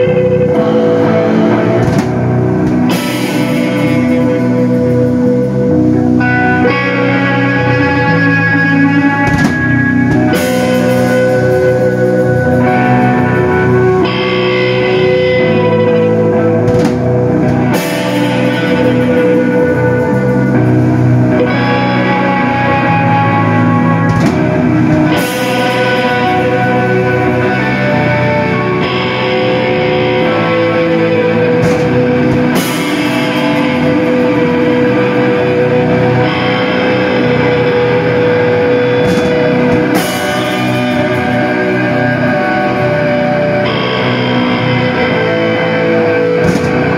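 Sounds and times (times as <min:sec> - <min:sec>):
live rock band playing: 0:00.0 - 0:46.9
ringing electric guitar chords: 0:00.0 - 0:46.9.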